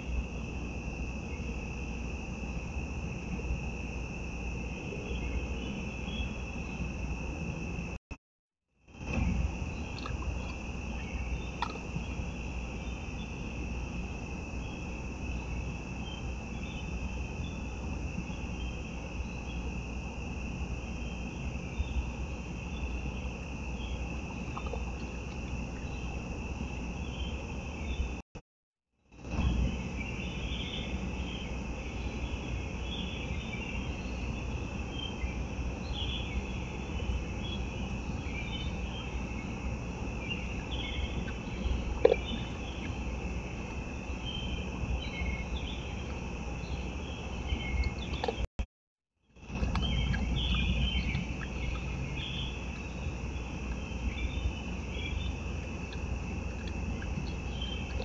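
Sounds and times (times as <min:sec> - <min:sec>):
crickets trilling: 0:00.0 - 0:08.0, 0:08.9 - 0:28.2, 0:29.1 - 0:48.5, 0:49.4 - 0:58.0.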